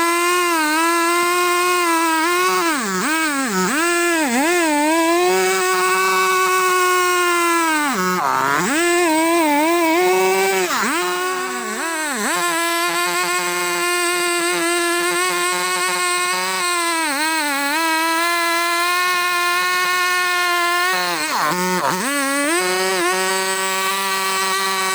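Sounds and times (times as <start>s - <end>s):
chainsaw cutting wood: 0.0s - 24.9s.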